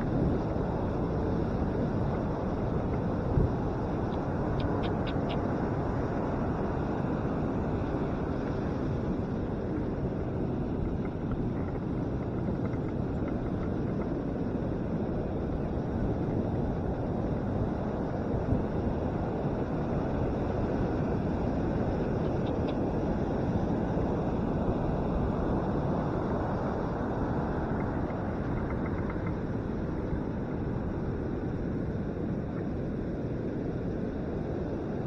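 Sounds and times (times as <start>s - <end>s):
wind on microphone: 0.0s - 35.0s.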